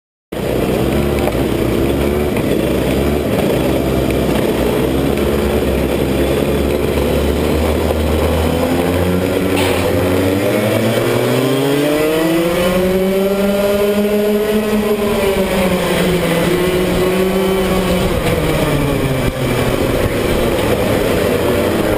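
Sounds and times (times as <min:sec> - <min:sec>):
kart engines revving: 0:00.4 - 0:21.9.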